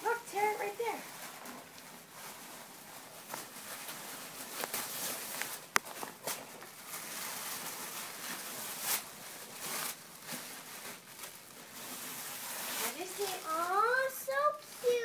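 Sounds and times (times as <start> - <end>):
fabric gift bag rustling: 0.0 - 15.0.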